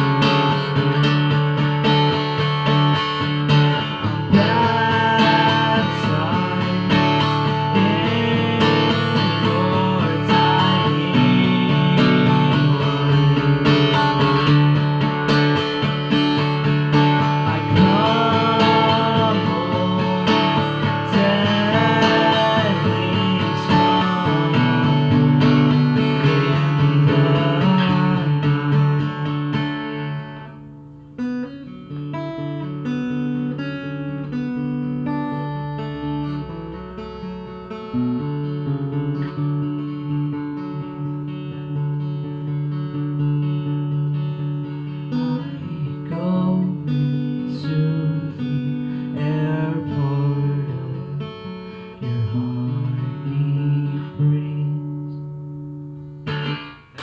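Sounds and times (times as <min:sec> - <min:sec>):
acoustic guitar chords: 0:00.0 - 0:57.0.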